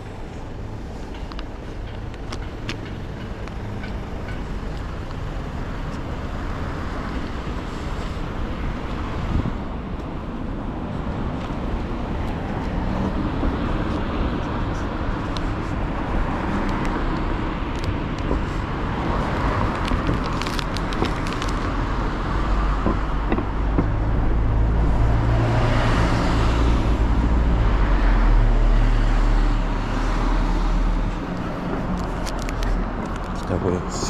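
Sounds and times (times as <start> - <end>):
heavy vehicle engine rumbling: 0.0 - 34.0
street traffic: 0.0 - 34.0.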